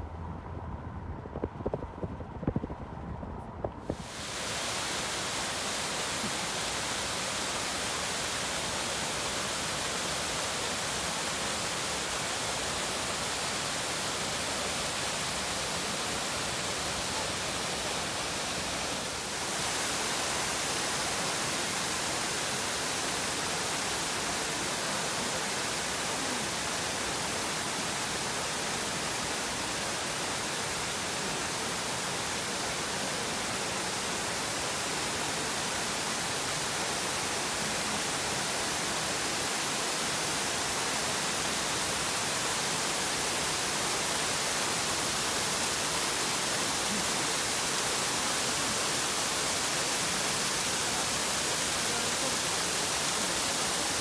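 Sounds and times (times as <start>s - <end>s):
steady rushing noise: 0.0s - 47.7s.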